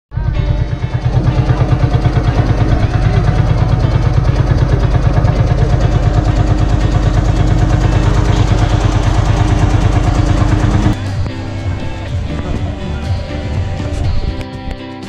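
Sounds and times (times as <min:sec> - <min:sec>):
tractor engine running: 0:00.1 - 0:14.8.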